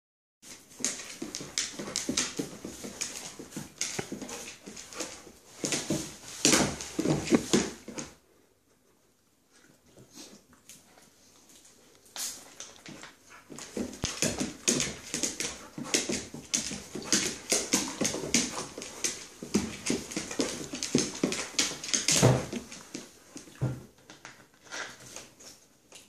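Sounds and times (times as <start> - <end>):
dog claws scrabbling on wooden floor: 0.5 - 8.1, 12.2 - 25.6.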